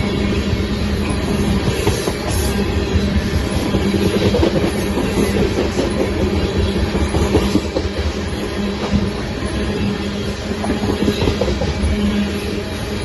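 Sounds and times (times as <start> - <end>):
train running on track: 0.0 - 13.0.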